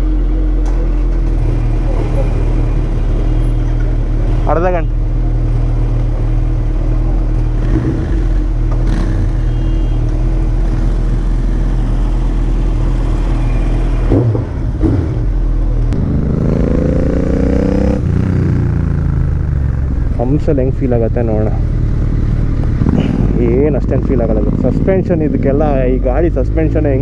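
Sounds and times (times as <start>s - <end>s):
motorcycle engine revving: 0.8s - 27.0s.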